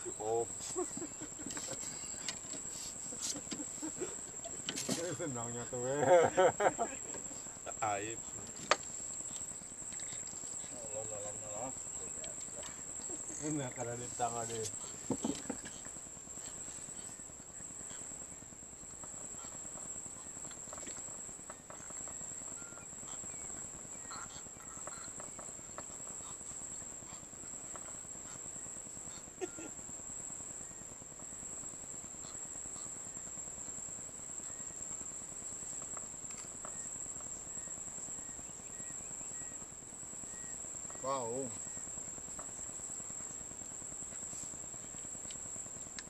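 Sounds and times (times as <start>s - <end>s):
insects buzzing: 0.0s - 46.0s.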